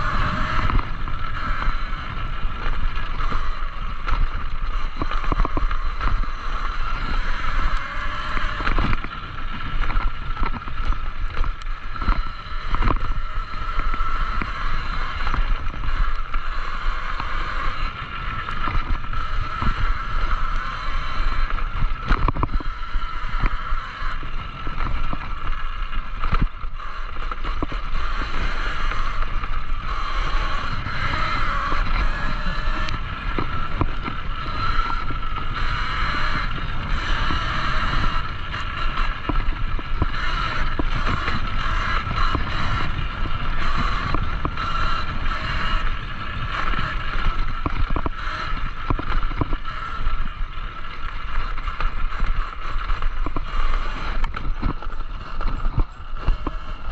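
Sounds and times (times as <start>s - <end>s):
electric motor whine: 0.0s - 56.9s
wind on microphone: 0.0s - 56.9s.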